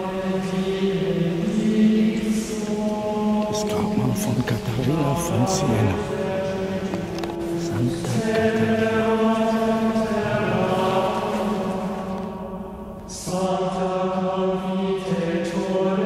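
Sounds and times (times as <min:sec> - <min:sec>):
slow vocal chant: 0:00.0 - 0:16.0.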